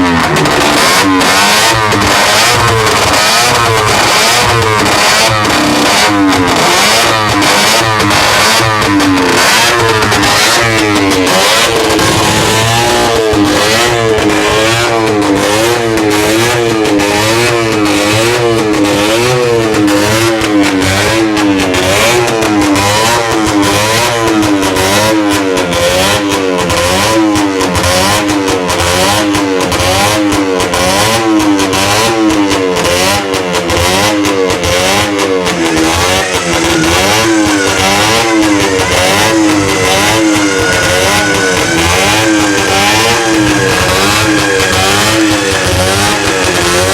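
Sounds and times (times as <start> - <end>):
two-stroke motorcycle engines revving: 0.0 - 46.9.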